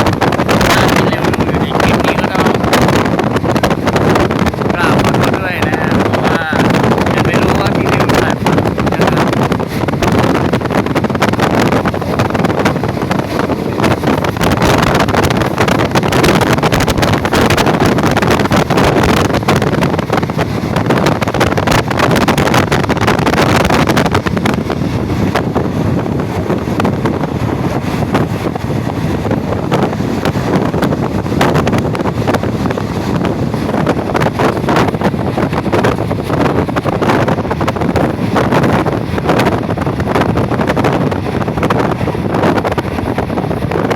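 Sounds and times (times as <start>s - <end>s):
train wheels clattering on track: 0.0s - 43.9s
wind buffeting microphone: 0.0s - 43.9s.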